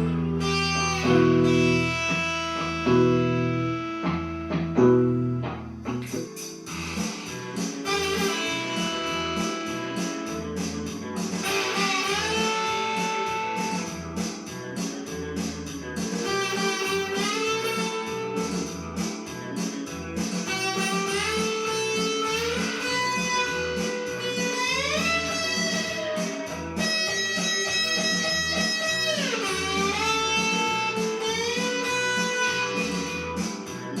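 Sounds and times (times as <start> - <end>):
blues lead guitar with bends: 0.0 - 34.0
pulsing bass: 0.0 - 34.0.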